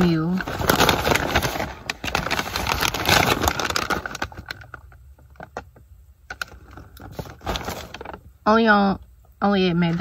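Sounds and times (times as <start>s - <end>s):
paper bag crinkling: 0.0s - 8.3s.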